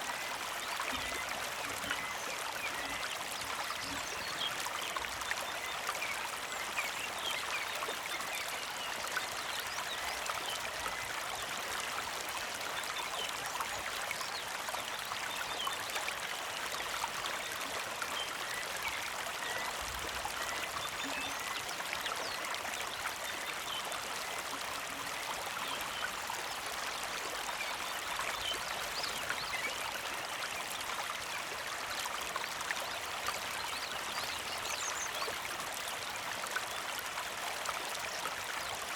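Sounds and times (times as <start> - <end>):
creek flowing: 0.0 - 38.9.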